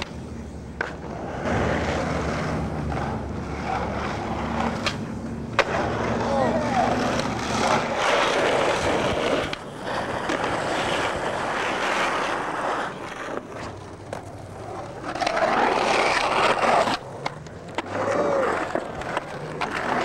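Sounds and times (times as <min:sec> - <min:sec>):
skateboard clacks: 0:00.0 - 0:20.0
skateboard wheels rolling on concrete: 0:00.0 - 0:20.0.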